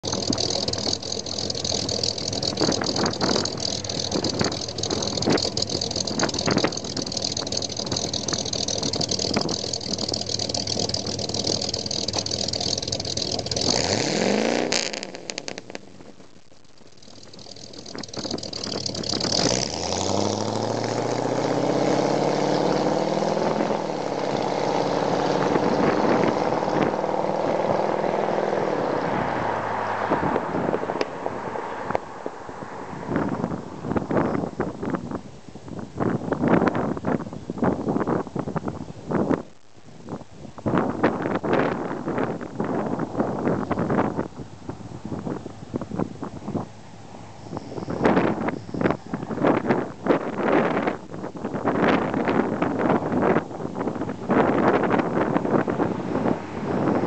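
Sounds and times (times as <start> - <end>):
car engine restarting: 0.0 - 39.4, 40.6 - 57.0
car engine running and idling: 0.0 - 57.0.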